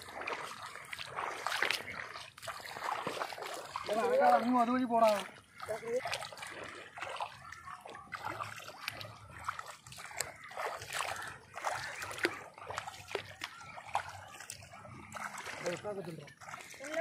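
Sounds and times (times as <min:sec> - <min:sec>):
footsteps splashing through water: 0:00.0 - 0:17.0.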